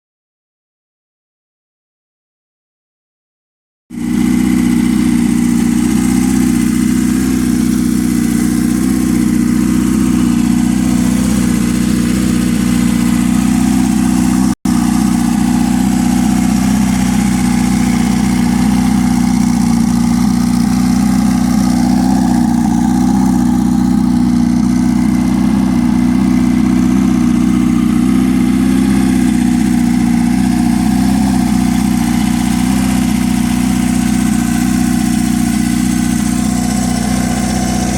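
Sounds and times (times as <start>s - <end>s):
motorcycle engine idling: 3.9s - 37.9s.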